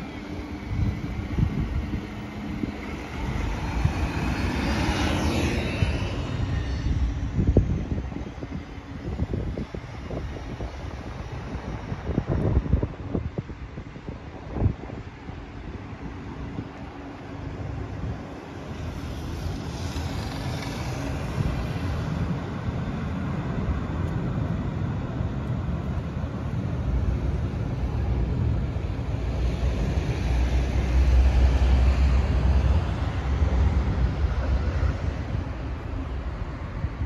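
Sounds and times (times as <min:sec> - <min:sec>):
trams passing: 0:00.0 - 0:37.0
wind noise on microphone: 0:00.0 - 0:37.0.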